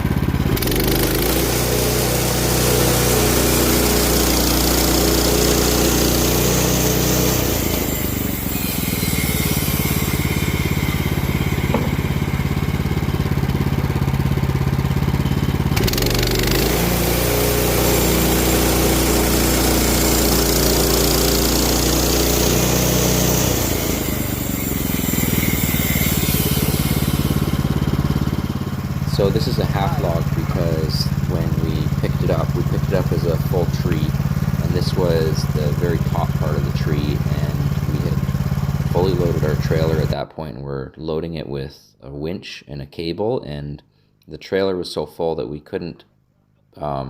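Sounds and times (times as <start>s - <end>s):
petrol engine running: 0.0s - 40.1s.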